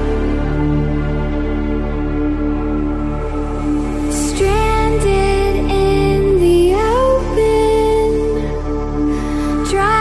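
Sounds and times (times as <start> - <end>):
slow gliding melody: 0.0 - 10.0
steady low drone: 0.0 - 10.0.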